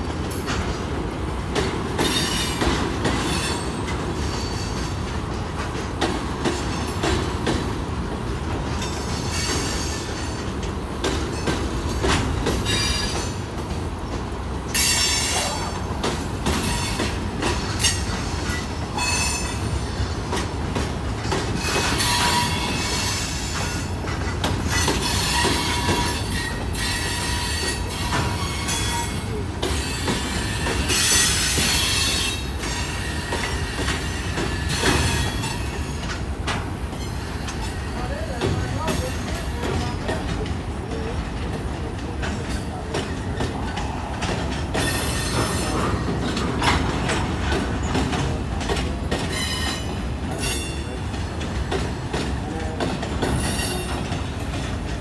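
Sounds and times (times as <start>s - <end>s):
train wheels rumbling on rails: 0.0s - 55.0s
wheels clacking over rail joints: 0.0s - 55.0s.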